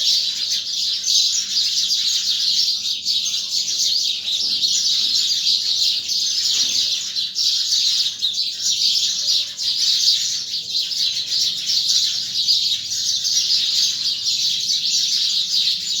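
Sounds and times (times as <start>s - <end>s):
dawn chorus of small birds: 0.0s - 16.0s.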